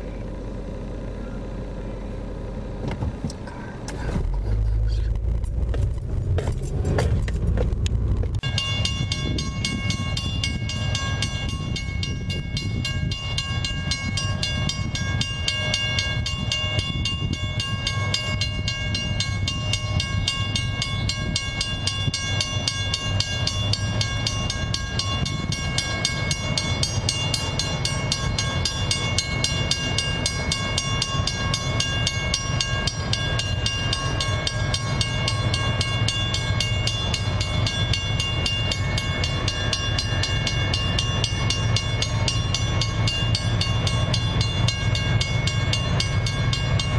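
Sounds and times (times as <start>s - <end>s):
locomotive rumble: 0.0s - 46.9s
train wheels clicking on rails: 5.5s - 46.9s.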